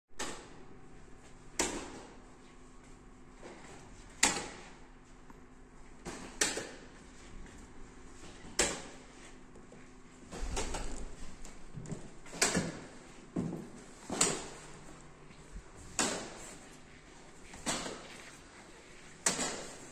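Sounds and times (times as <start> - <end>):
low steady hum: 0.4 - 19.9.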